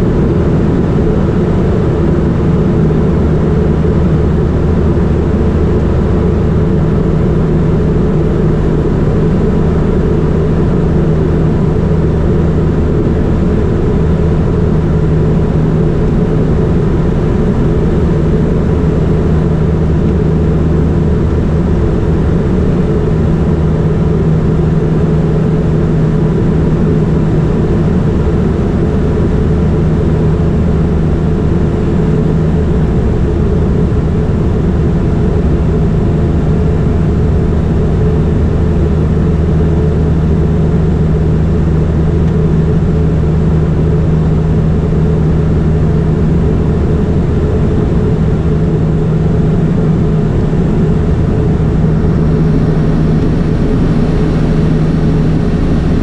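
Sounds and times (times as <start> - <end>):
turboprop plane droning in flight: 0.0 - 56.0.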